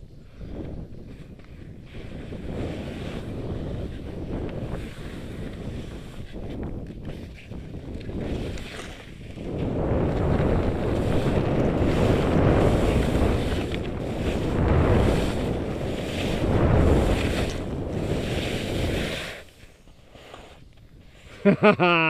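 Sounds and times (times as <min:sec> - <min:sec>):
wind buffeting microphone: 0:00.0 - 0:21.4
skis hissing over snow: 0:00.4 - 0:21.6.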